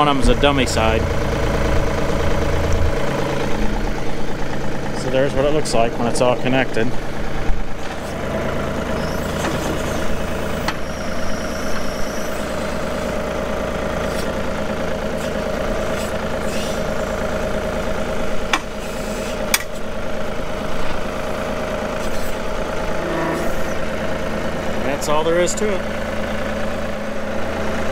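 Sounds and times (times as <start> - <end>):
tractor diesel engine idling: 0.0 - 27.9.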